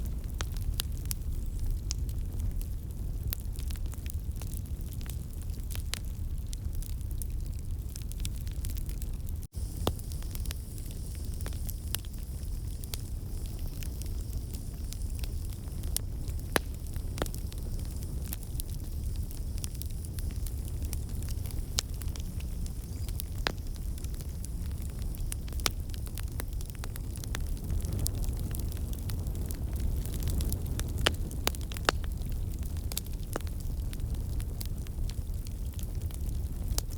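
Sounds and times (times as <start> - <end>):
fire popping and snapping: 0.0 - 36.9
wood fire low rumble: 0.0 - 36.9.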